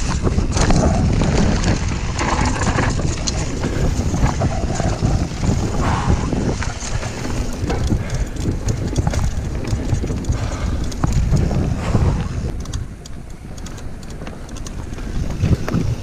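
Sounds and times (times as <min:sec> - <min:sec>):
bike rattling over bumps: 0:00.0 - 0:16.0
bike tyre noise: 0:00.0 - 0:16.0
wind rumbling on microphone: 0:00.0 - 0:16.0.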